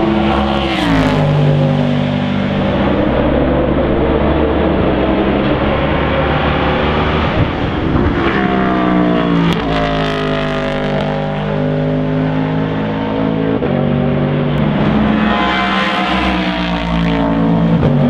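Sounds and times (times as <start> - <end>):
race car engine passing by: 0.1 - 18.0.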